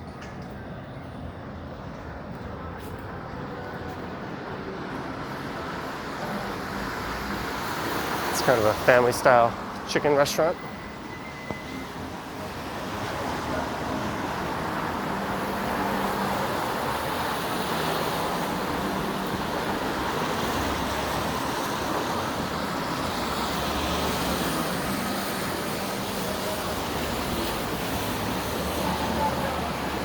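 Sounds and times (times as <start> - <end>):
traffic on wet road: 1.6 - 30.0.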